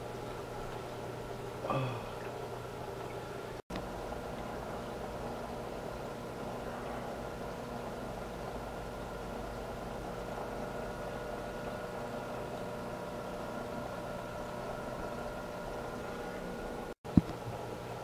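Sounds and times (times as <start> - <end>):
aquarium filter hum: 0.0 - 18.0.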